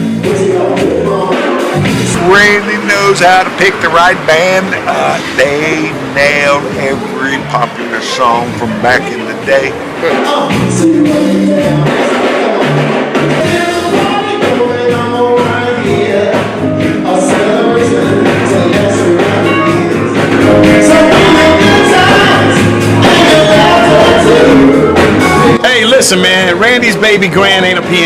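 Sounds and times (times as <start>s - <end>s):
lead singer singing: 0.0s - 25.6s
live band playing: 0.0s - 28.0s
steady drum beat: 0.0s - 28.0s.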